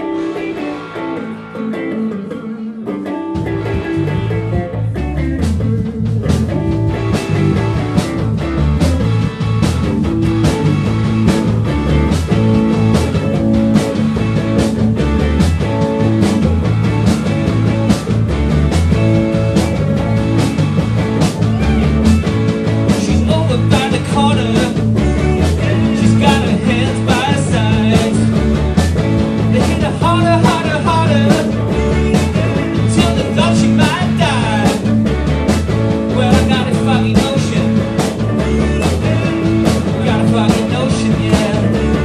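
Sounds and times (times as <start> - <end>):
drum kit beat: 0.0 - 42.0
electric guitar: 0.0 - 42.0
rock band playing: 0.0 - 42.0.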